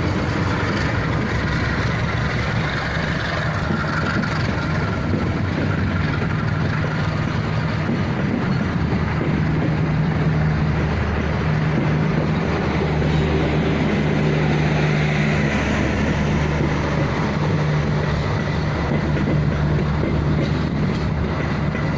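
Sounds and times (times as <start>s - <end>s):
train running on rails: 0.0s - 21.9s.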